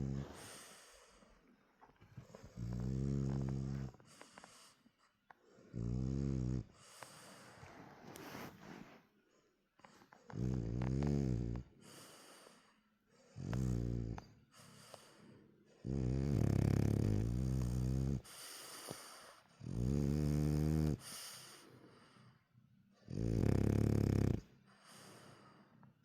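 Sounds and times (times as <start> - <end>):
dog snoring: 0.0 - 1.3, 2.0 - 4.7, 5.4 - 8.5, 9.8 - 22.3, 23.0 - 25.8
soft breathy breaths: 0.0 - 19.8, 20.9 - 23.4, 24.4 - 26.0.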